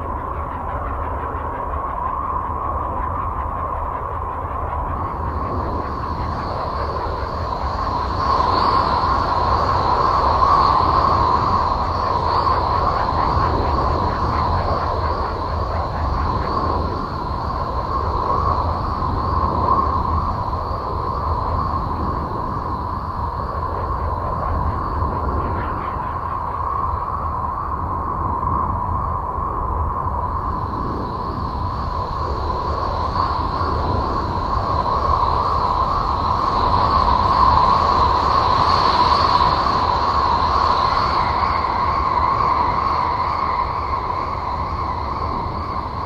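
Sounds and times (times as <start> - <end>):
rushing drone: 0.0 - 46.0.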